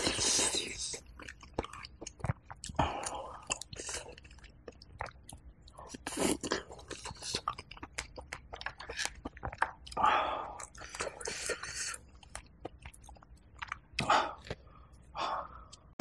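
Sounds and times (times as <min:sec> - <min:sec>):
close-miked chewing: 0:00.0 - 0:16.0.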